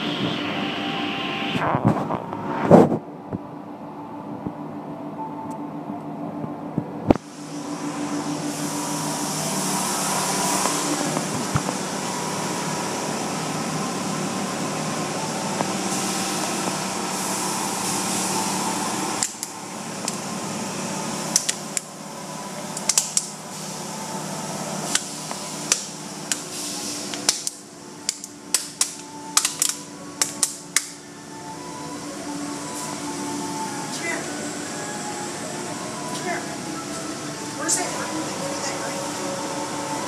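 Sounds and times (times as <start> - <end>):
car wash spray and machinery: 0.0 - 40.0.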